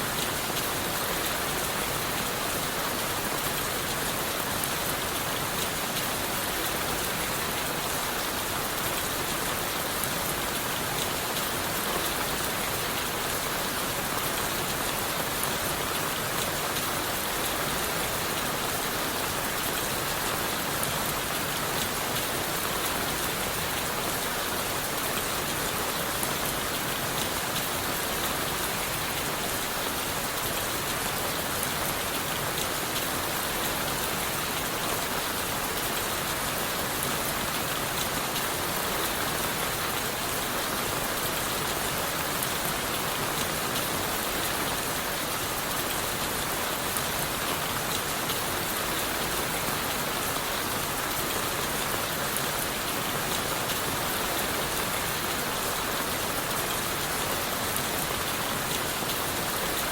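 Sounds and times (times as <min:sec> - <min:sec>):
rain falling on leaves and wood: 0:00.0 - 0:59.9.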